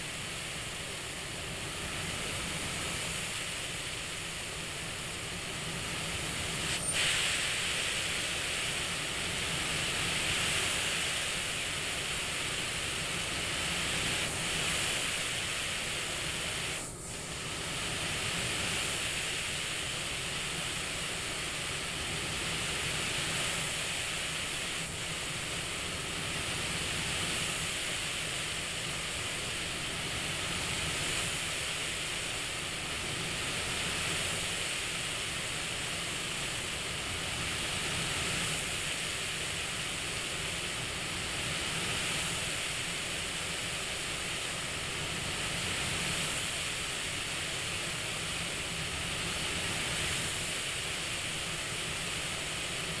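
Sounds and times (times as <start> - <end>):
hiss of rushing air: 0.0 - 53.0.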